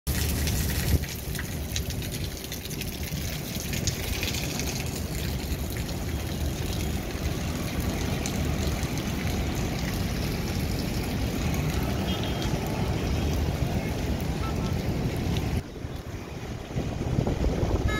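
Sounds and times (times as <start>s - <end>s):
faint city traffic hum: 0.1s - 17.9s
wind rumbling on microphone: 0.1s - 17.9s.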